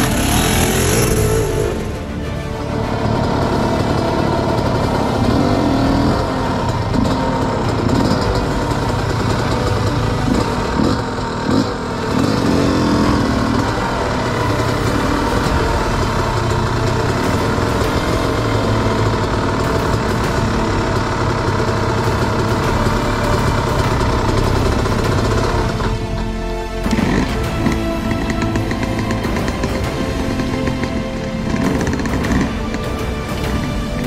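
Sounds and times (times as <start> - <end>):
dirt bike engine at low revs: 0.0 - 34.0.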